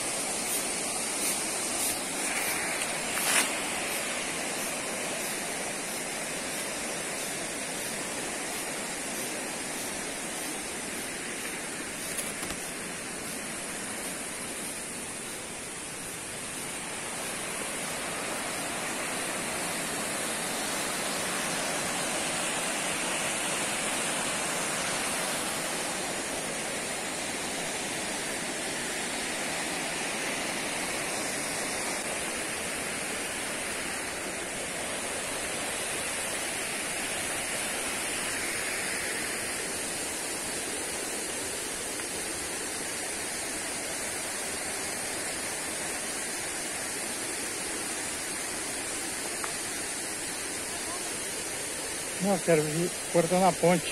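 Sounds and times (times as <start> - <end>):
high-pitched hiss: 0.0 - 53.9
waterfall rushing: 0.0 - 53.9.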